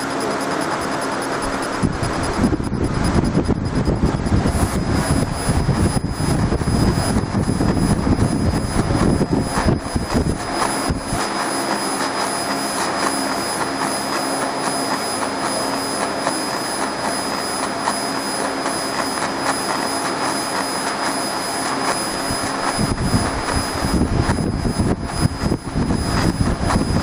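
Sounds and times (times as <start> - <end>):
laser engraving machine running: 0.0 - 27.0.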